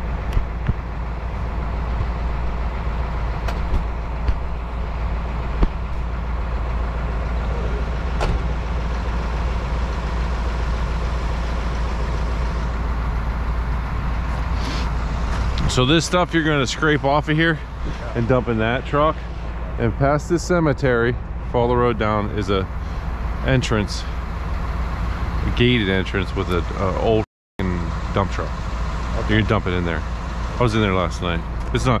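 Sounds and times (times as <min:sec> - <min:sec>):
heavy vehicle engine idling: 0:00.0 - 0:32.0.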